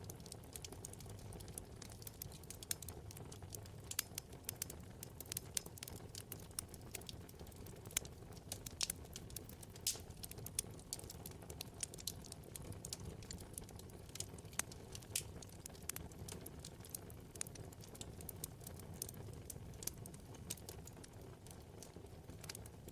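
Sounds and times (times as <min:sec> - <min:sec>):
rumble of flames: 0:00.0 - 0:22.9
wood fire crackling and popping: 0:00.0 - 0:22.9.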